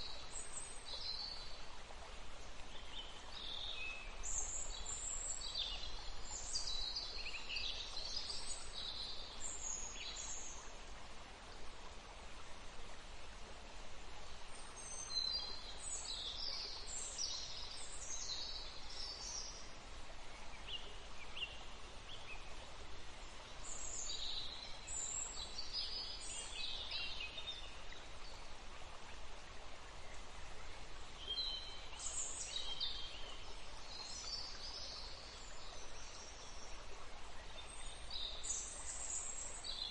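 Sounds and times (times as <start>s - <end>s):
flowing stream: 0.0s - 39.9s.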